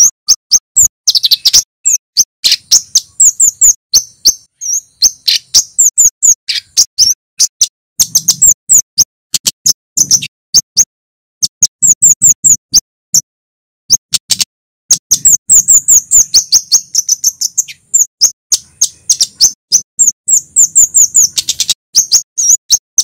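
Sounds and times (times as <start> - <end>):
bird sharp high chirps: 0.0 - 13.3, 13.9 - 23.0.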